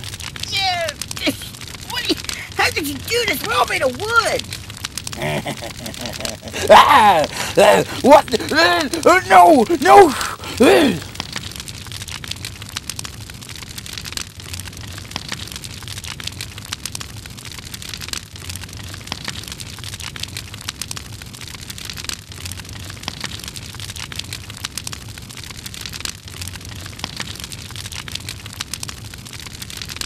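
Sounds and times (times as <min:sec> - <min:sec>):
fire crackling with pops and snaps: 0:00.0 - 0:30.0.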